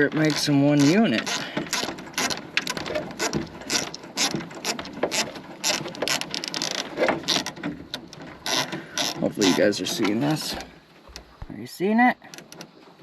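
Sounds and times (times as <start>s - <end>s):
cable tie ratcheting clicks: 0.0s - 11.3s, 12.3s - 12.7s.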